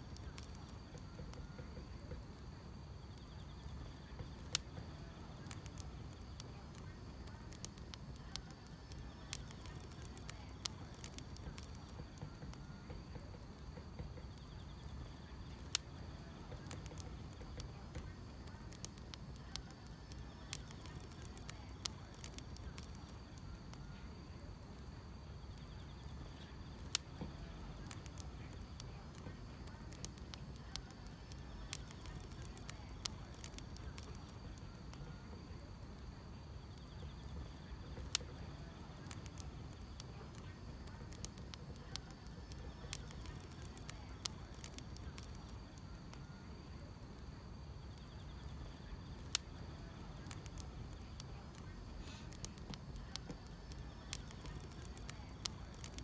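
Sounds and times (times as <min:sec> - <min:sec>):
insects chirping: 0:00.0 - 0:56.0
wood fire crackling and popping: 0:00.0 - 0:56.0.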